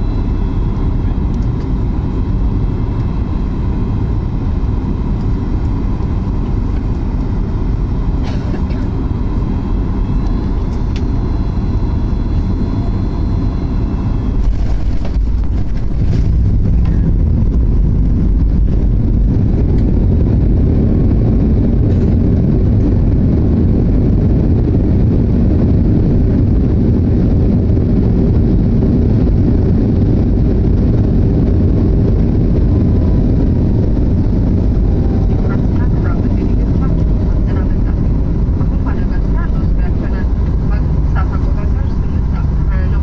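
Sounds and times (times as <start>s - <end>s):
airplane engines and airflow in cabin: 0.0s - 43.0s.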